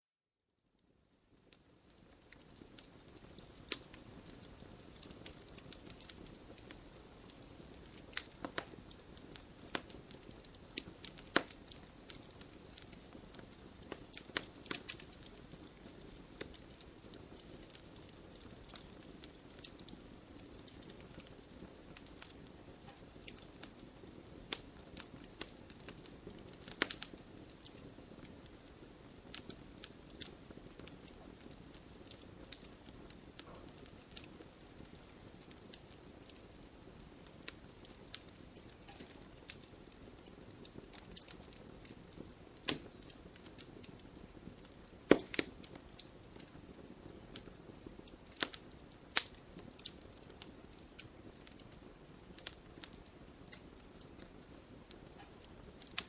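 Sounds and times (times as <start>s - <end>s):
low hiss and rumble of flames: 0.8s - 56.0s
wood fire pops and snaps: 1.4s - 56.0s.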